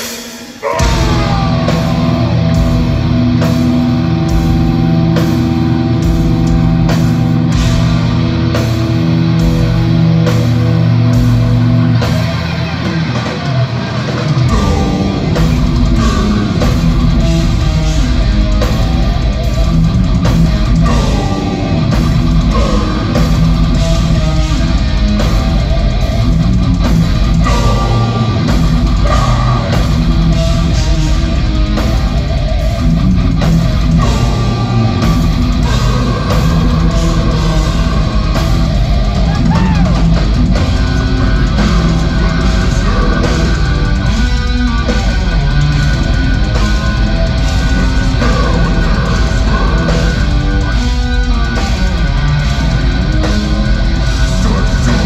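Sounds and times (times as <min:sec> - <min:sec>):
driving drum rhythm: 0:00.0 - 0:55.0
heavy metal band playing live: 0:00.0 - 0:55.0.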